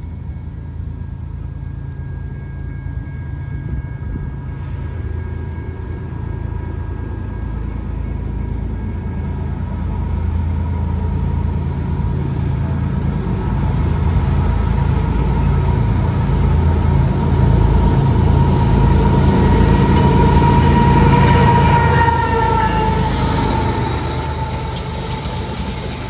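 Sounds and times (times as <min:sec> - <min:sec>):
diesel train engine rumble: 0:00.0 - 0:26.0
steady high tone: 0:00.0 - 0:26.0.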